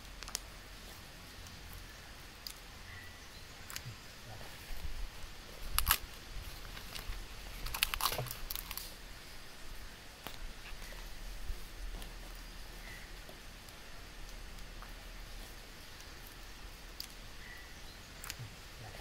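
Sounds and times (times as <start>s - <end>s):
wood fire crackling and popping: 0.0s - 2.8s, 3.5s - 18.9s.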